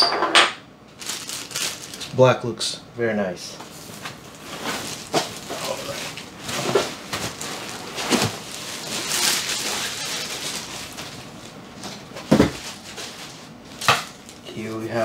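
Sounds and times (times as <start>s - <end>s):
plastic bag crinkling: 1.0s - 2.4s, 3.7s - 14.4s.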